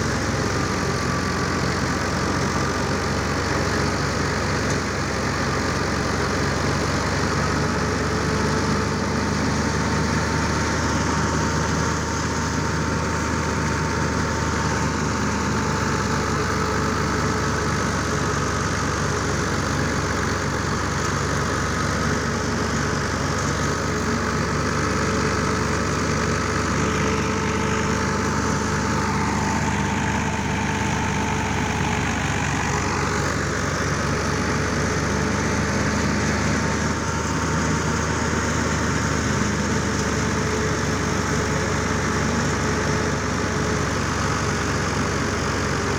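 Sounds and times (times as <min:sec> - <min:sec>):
straw rushing through thresher: 0:00.0 - 0:45.9
thresher whining hum: 0:00.0 - 0:45.9
tractor diesel engine running: 0:00.0 - 0:45.9.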